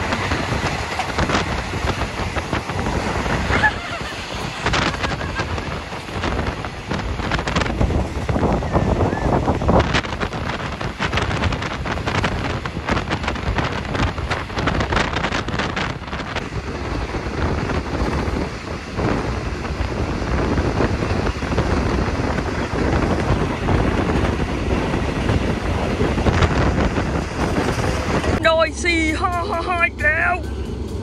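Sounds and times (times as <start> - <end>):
train running rumble: 0.0 - 31.0
wind rushing over microphone: 0.0 - 31.0.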